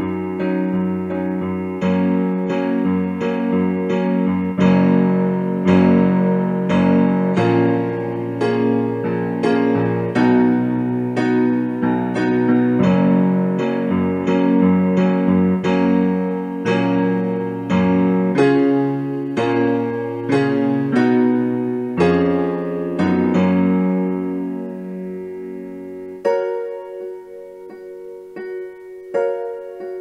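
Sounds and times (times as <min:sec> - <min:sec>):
slow solo piano: 0:00.0 - 0:30.0.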